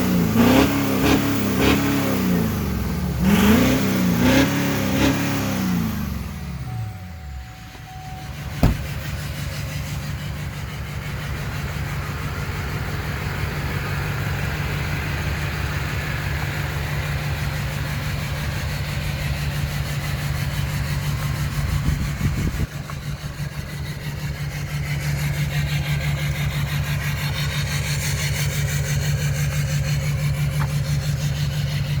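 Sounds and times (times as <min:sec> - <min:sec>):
diesel engine idling: 0:05.7 - 0:32.0.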